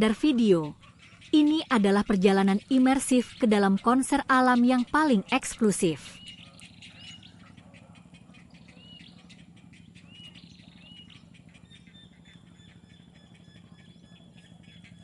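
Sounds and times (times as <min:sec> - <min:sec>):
birds whistling calls: 0:00.0 - 0:15.0.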